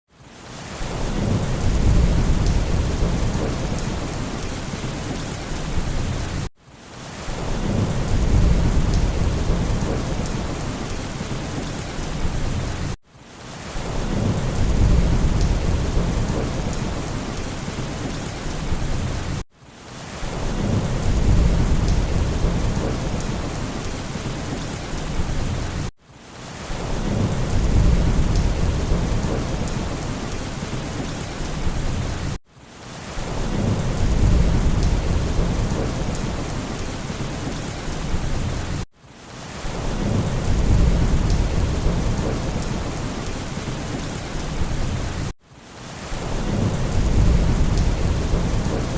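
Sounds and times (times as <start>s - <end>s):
heavy rain: 0.1s - 48.9s
low rolling thunder: 0.8s - 6.4s, 7.3s - 13.0s, 13.8s - 19.4s, 20.3s - 25.9s, 26.8s - 32.3s, 33.3s - 38.8s, 39.7s - 45.3s, 46.2s - 48.9s.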